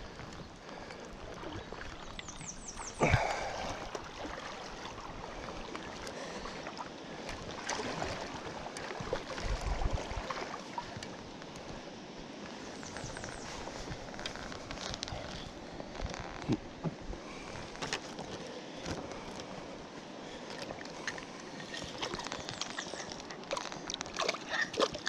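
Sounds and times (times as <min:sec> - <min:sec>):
river water sloshing: 0:00.0 - 0:25.0.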